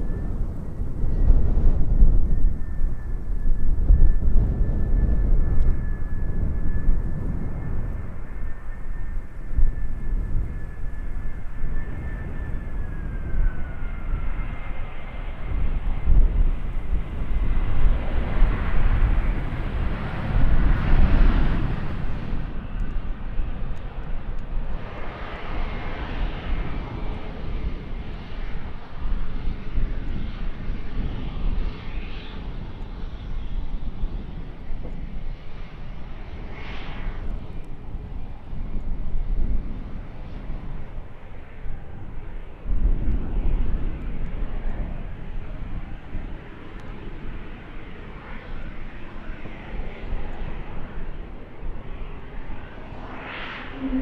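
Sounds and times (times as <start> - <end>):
airliner engines passing: 0.0 - 54.0.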